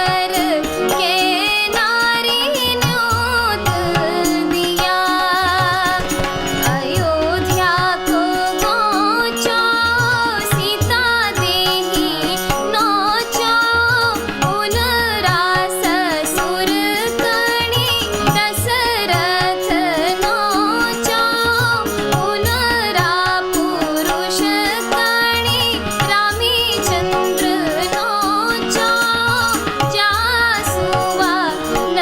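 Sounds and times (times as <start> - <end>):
woman singing: 0.0 - 32.0.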